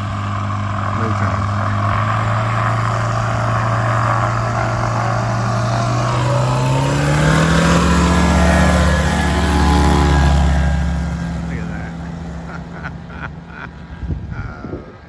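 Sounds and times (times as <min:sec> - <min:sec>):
light aircraft engine and propeller: 0:00.0 - 0:15.0.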